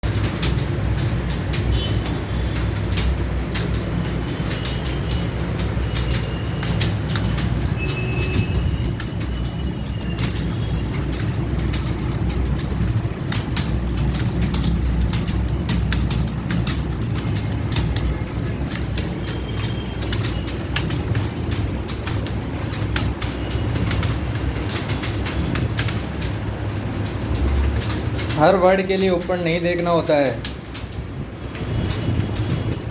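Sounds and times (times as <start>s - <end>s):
keyboard typing clicks: 0.0s - 32.9s.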